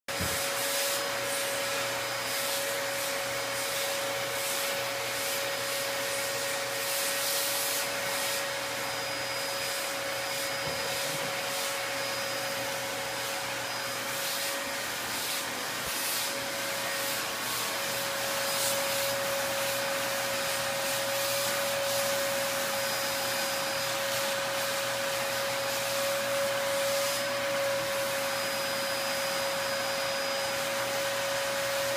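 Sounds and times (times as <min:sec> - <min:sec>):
vacuum cleaner running: 0:00.1 - 0:31.9.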